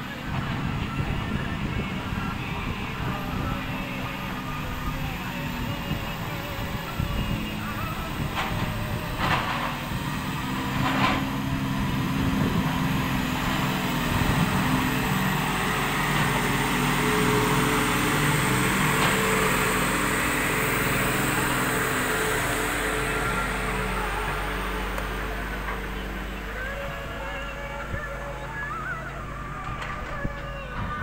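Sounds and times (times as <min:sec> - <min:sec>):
heavy diesel engines running: 0:00.0 - 0:31.0.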